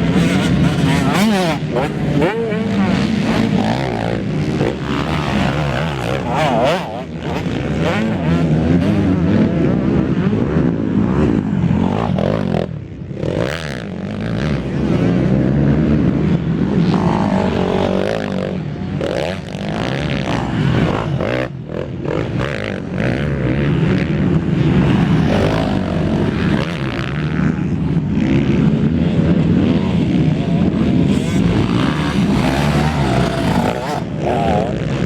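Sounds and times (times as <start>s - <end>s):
racing motorcycle engines revving: 0.0s - 35.0s.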